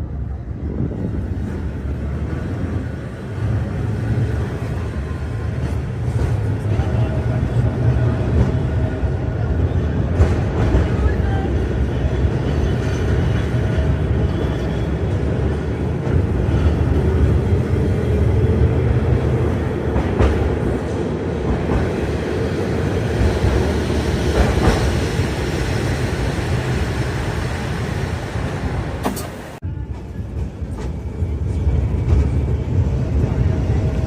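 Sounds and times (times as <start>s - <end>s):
tram rumbling on rails: 0.0s - 34.0s.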